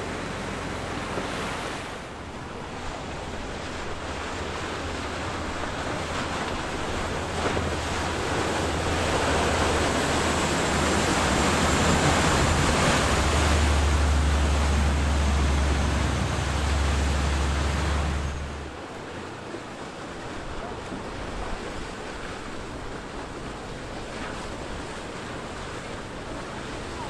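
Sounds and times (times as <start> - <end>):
boat diesel engines droning: 0.0 - 27.0
rush of wake and surf: 0.0 - 27.0.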